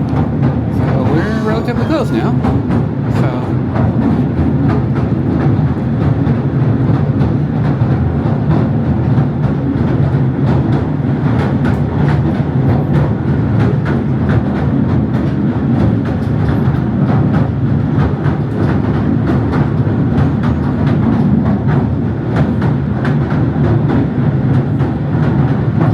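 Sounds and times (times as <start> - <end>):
train rumbling along track: 0.0 - 25.9.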